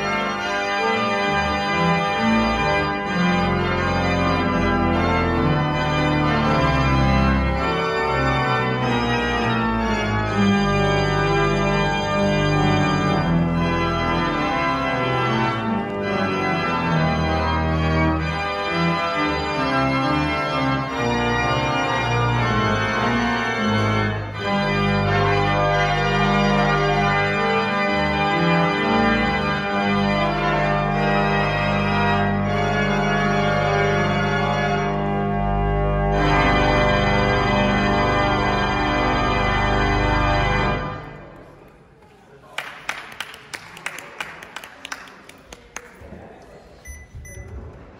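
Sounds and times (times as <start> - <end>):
church organ playing chords: 0.0 - 41.4.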